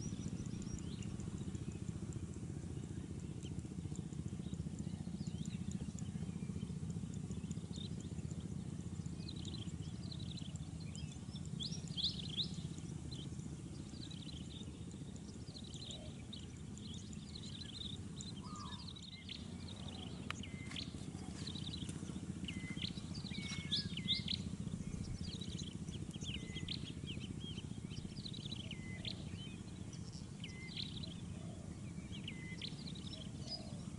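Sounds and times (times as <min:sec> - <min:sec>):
small birds chirping: 0:00.0 - 0:33.9
steady low rumble: 0:00.0 - 0:33.9.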